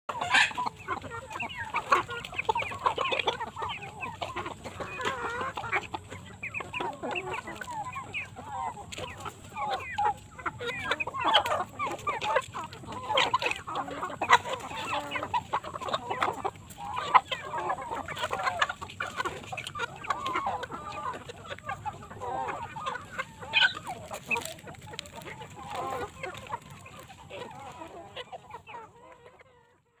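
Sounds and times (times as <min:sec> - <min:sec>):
chickens clucking: 0:00.1 - 0:30.0.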